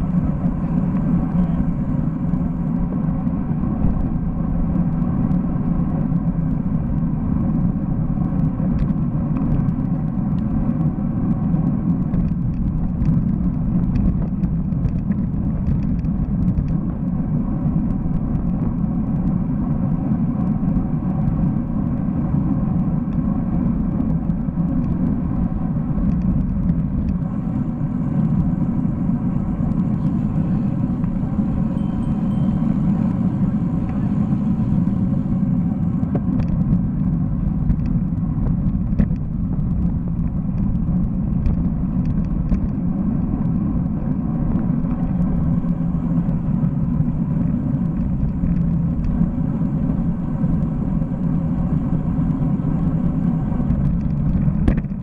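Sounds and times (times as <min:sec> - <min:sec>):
road rumble: 0:00.0 - 0:55.0
wind buffeting microphone: 0:00.0 - 0:55.0.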